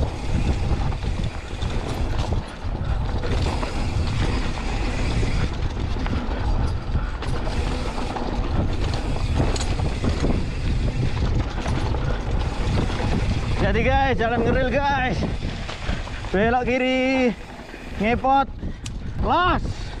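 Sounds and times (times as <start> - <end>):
mountain bike rattling and clicking: 0.0 - 20.0
wind rumble on microphone: 0.0 - 20.0.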